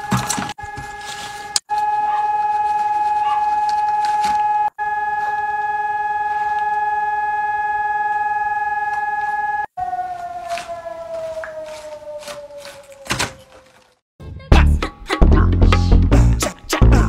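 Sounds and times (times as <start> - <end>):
siren-like tone: 0.0 - 13.9.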